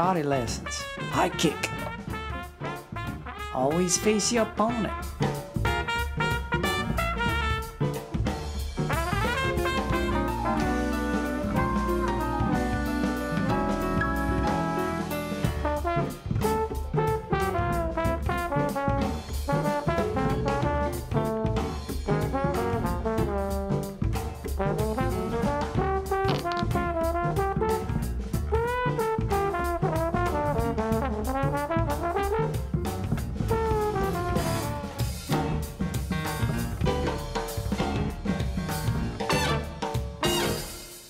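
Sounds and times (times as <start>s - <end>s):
upbeat jazzy music: 0.0s - 41.0s.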